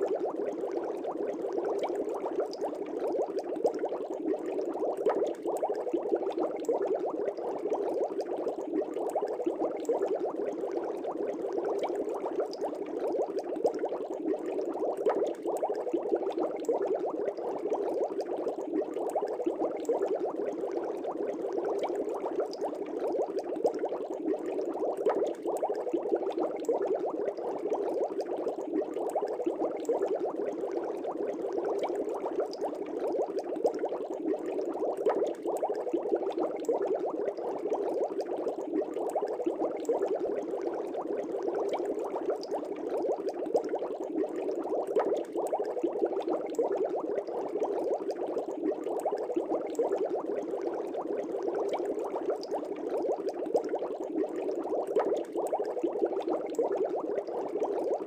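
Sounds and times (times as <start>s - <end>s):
aquarium air bubbles: 0.0s - 58.0s.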